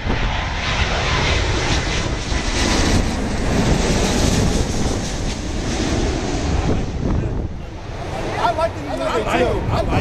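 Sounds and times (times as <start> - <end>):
jet engines passing overhead: 0.0 - 10.0.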